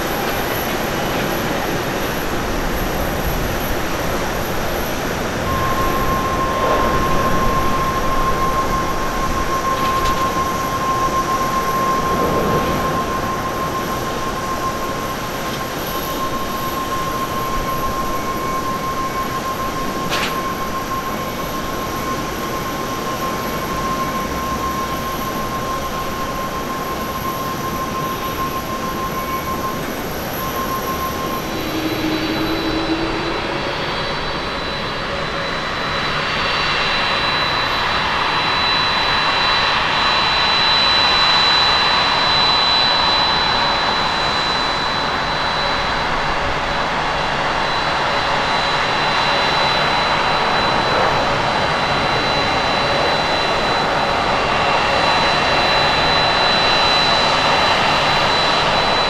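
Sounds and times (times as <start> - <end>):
distant jet climbing: 0.0 - 59.0
jet landing roar with whine: 0.0 - 59.0.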